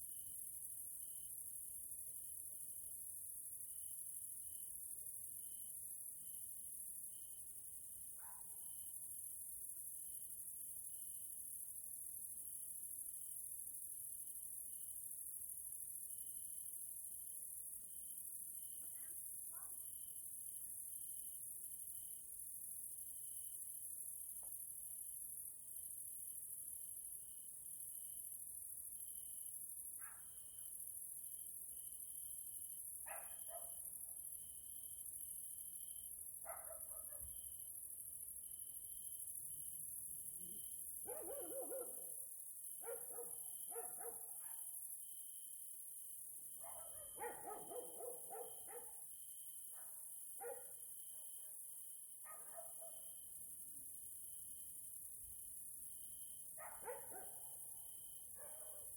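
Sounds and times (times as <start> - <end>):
crickets chirring: 0.0 - 58.9.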